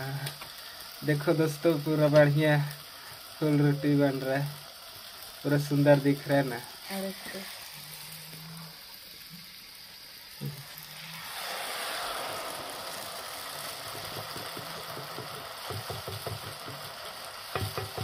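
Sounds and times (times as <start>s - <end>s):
oil sizzling: 0.0s - 18.0s.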